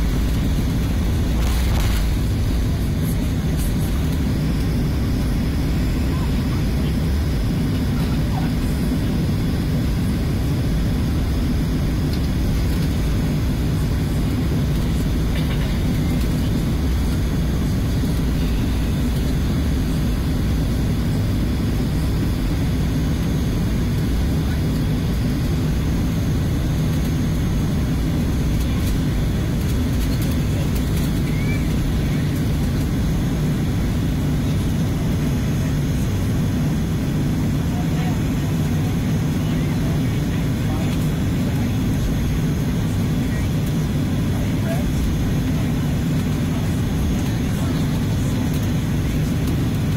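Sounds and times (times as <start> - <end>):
jet engines low rumble in cabin: 0.0 - 49.9.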